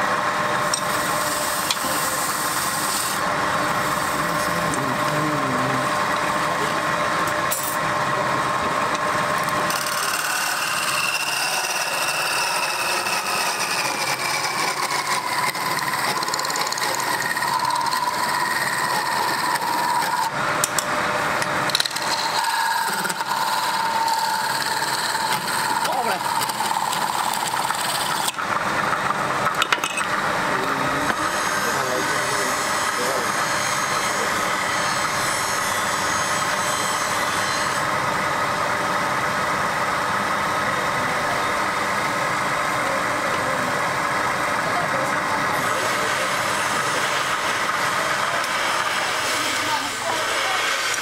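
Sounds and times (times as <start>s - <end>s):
wood rubbing and scraping on lathe: 0.0s - 7.0s, 8.1s - 20.8s, 21.4s - 38.0s, 45.5s - 51.0s
thin lathe whine: 0.0s - 51.0s.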